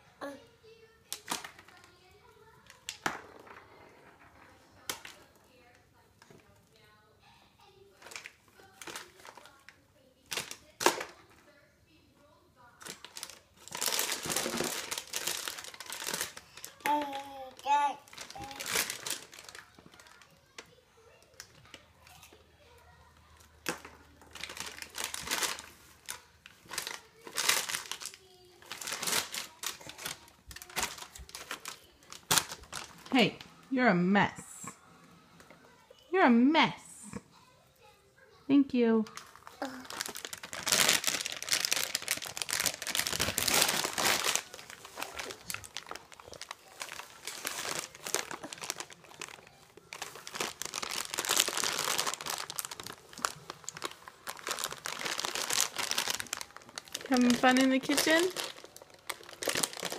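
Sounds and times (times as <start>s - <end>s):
plastic bag crinkling: 1.1s - 7.0s, 7.9s - 11.6s, 12.6s - 20.7s, 21.3s - 33.5s, 39.0s - 59.9s.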